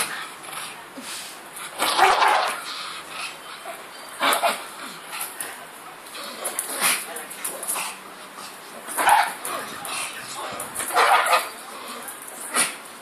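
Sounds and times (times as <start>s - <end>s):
dog play-fighting noises: 0.0s - 13.0s.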